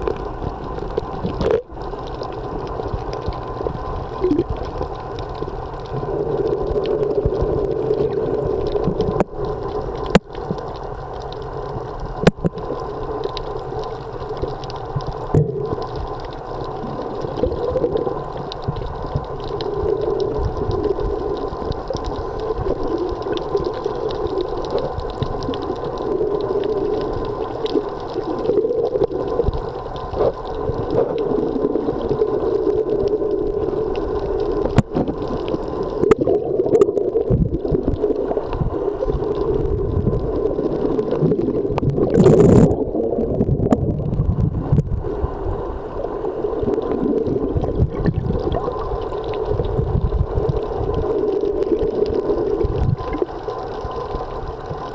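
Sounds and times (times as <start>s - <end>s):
underwater rushing hum: 0.0s - 54.9s.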